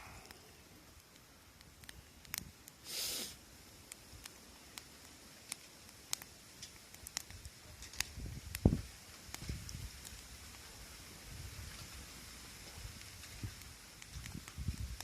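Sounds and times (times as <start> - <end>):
fire hiss: 0.0 - 15.0
wood fire crackling: 0.0 - 15.0.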